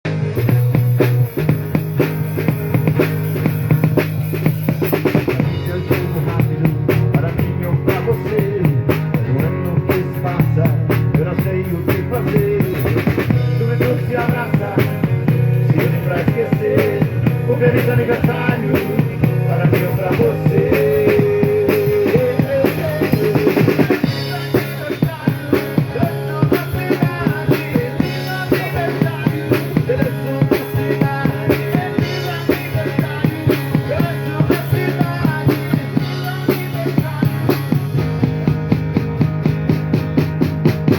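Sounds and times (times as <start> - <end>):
rock music with drums and bass: 0.0 - 40.9.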